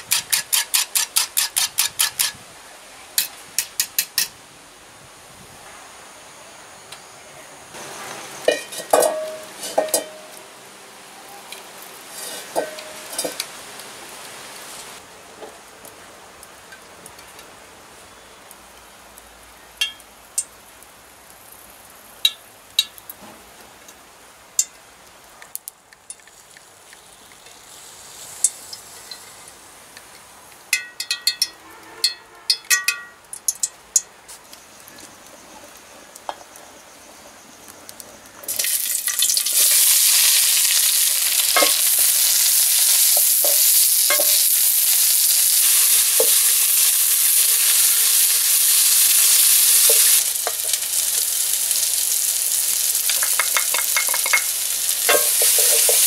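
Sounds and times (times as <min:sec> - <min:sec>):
low steady hiss: 0:00.0 - 0:56.0.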